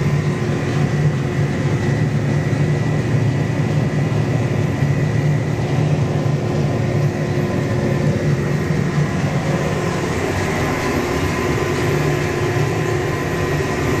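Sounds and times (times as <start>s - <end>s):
faint steady whines: 0.0s - 14.0s
tractor engine droning: 0.0s - 14.0s.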